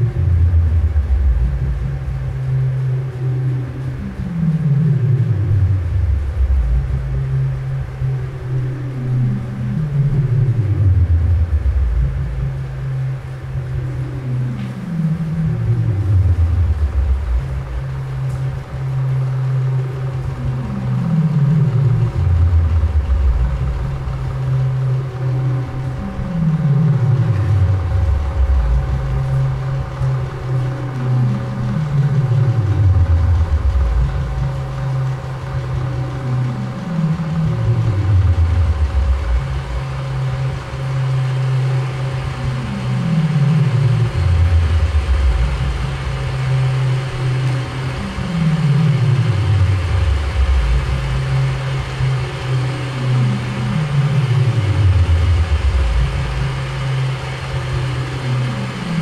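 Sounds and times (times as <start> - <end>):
deep electronic tones sliding downward: 0.0 - 59.0
high sustained electronic tones: 0.0 - 59.0
steady low electronic hum: 0.0 - 59.0.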